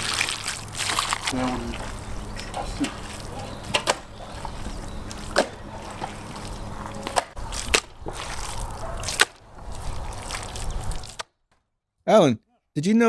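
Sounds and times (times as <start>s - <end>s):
meat squelching in bowl: 0.0s - 11.2s.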